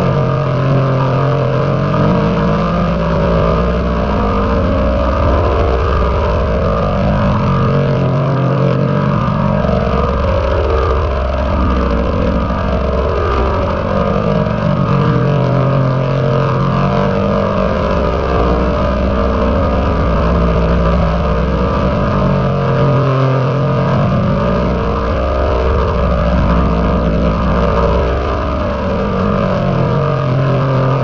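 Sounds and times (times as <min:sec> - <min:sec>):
distorted drone: 0:00.0 - 0:31.0
low hum shifting pitch: 0:00.0 - 0:31.0.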